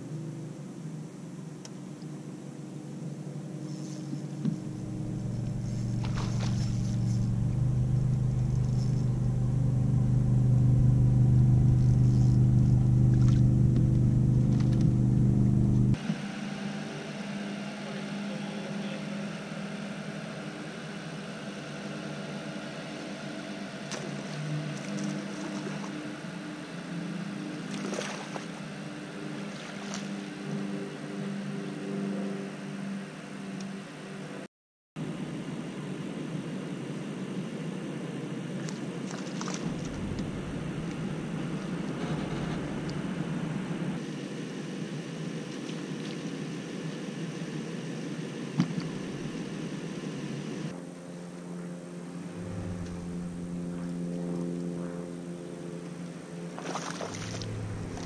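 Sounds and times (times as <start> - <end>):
low motor hum: 1.5 - 58.0.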